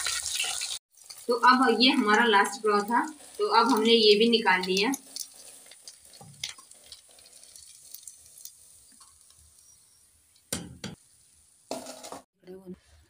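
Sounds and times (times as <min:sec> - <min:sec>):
hot oil sizzling: 0:00.0 - 0:12.3.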